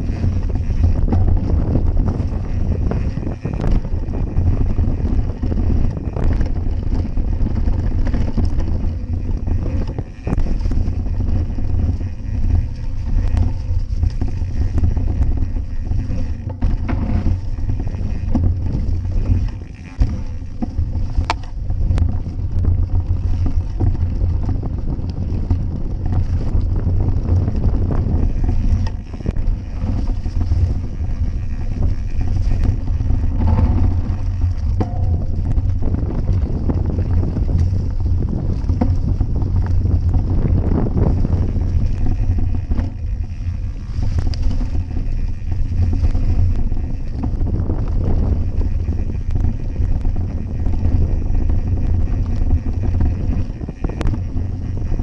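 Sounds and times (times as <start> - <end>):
bike knocks and rattles: 0.0 - 55.0
tyre noise on dirt: 0.0 - 55.0
wind buffeting microphone: 0.0 - 55.0.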